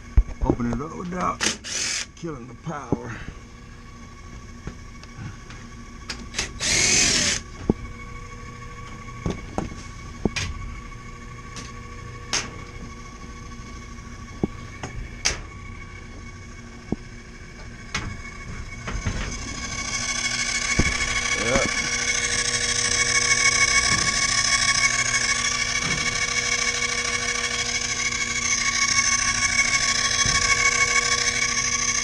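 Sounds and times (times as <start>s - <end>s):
air conditioner humming: 0.0s - 32.0s
cordless drill spinning: 0.8s - 2.2s, 3.5s - 32.0s.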